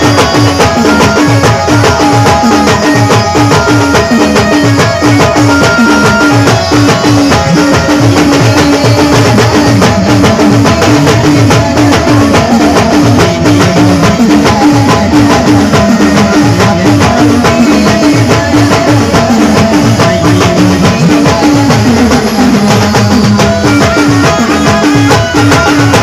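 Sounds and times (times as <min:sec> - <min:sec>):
band playing dance music: 0:00.0 - 0:26.0
fast drum beat: 0:00.0 - 0:26.0.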